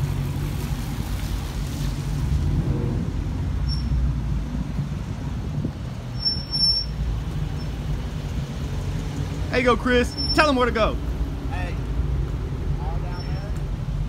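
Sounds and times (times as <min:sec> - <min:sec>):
car engines idling and rolling: 0:00.0 - 0:14.0.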